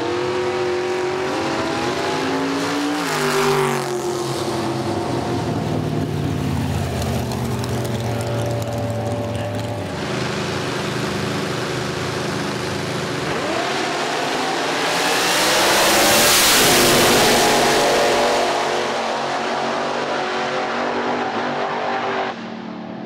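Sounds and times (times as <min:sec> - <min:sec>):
drag racing car engine: 0:00.0 - 0:23.0.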